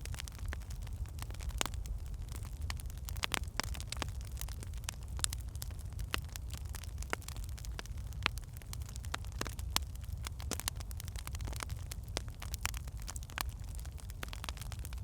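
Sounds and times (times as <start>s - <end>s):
fire crackling and popping: 0.0s - 15.0s
low rumble of flame: 0.0s - 15.0s.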